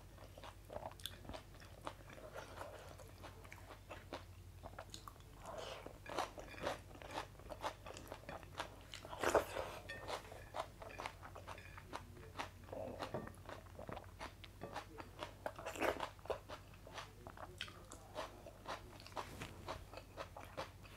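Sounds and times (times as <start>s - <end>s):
wet chewing with mouth clicks: 0.2s - 20.9s.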